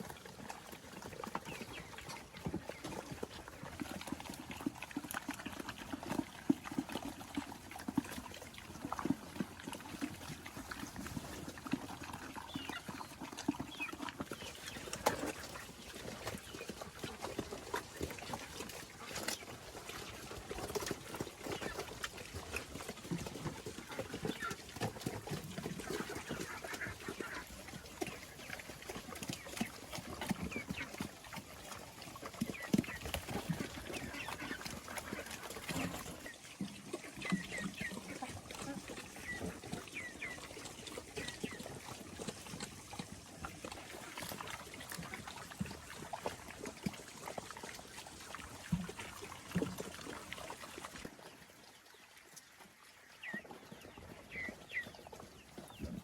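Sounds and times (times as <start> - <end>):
pigs grunting: 0.0 - 51.0
chewing and slurping: 0.0 - 51.4.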